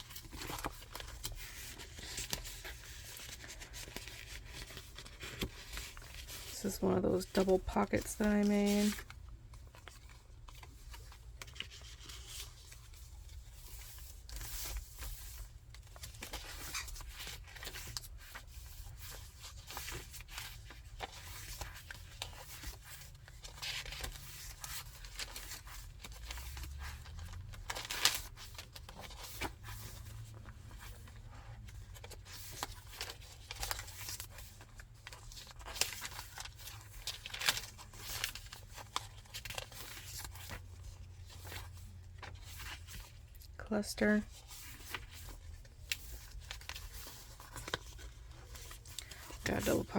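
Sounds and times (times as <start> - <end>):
paper rustling and crinkling: 0.0 - 43.4, 44.0 - 49.9.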